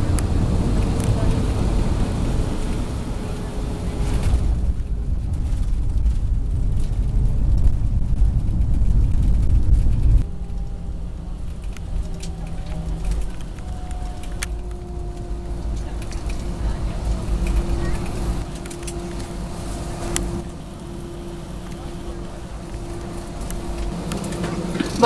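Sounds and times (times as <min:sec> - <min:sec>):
jet engine cabin rumble: 0:00.0 - 0:25.0
thin engine whine: 0:00.0 - 0:25.0.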